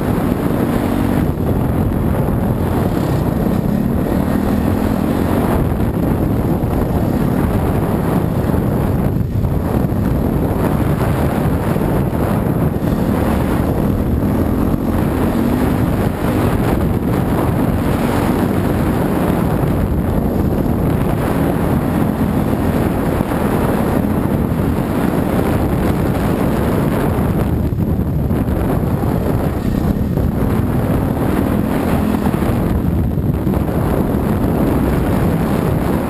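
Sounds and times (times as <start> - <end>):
dirt bike engine revving: 0.0 - 36.0
wind buffeting microphone: 0.0 - 36.0.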